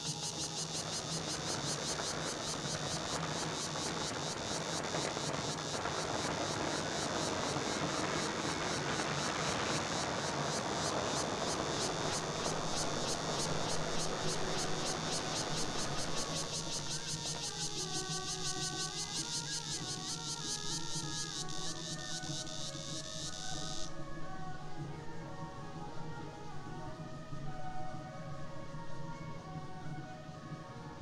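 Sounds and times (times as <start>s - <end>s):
insects calling: 0.0s - 26.8s.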